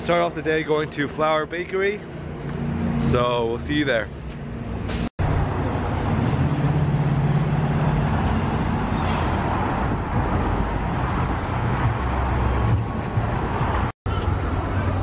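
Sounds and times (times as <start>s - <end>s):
vehicle engine hum: 0.0s - 15.0s
roar of traffic: 2.0s - 15.0s.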